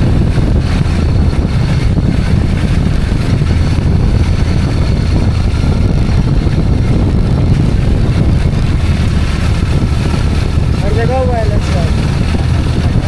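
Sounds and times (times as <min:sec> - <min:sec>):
motorbike engine rumble: 0:00.0 - 0:13.0
wind buffeting microphone: 0:00.0 - 0:13.0.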